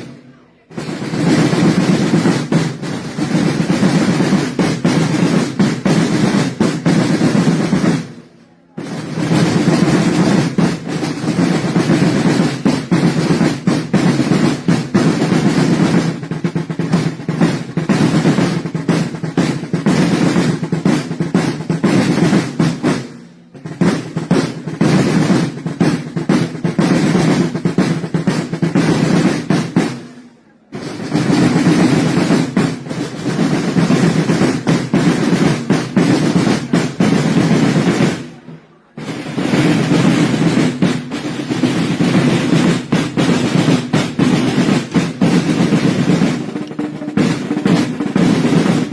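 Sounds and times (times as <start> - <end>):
snare drum rolls: 0.0 - 48.9.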